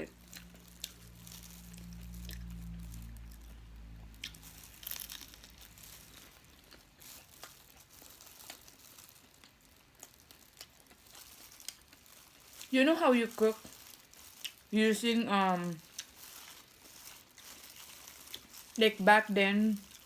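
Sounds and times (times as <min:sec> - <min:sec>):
person chewing food: 0:00.0 - 0:12.7, 0:13.7 - 0:14.7, 0:15.8 - 0:18.8
faint low hum: 0:00.0 - 0:20.0.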